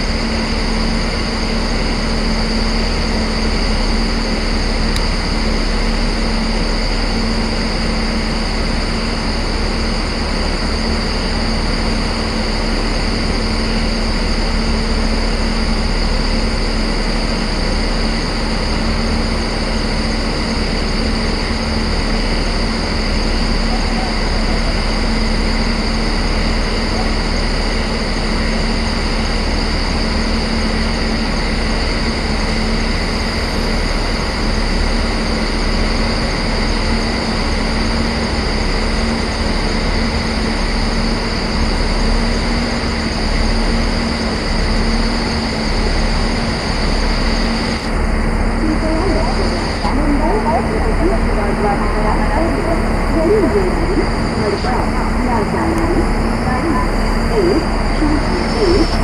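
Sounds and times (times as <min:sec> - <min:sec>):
electric locomotive humming: 0:00.0 - 0:59.0.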